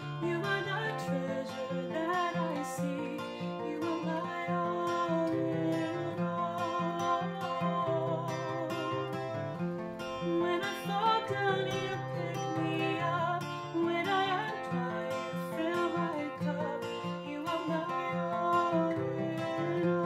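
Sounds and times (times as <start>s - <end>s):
person singing: 0.0s - 9.6s, 10.2s - 20.0s
strummed acoustic guitar: 0.0s - 20.0s.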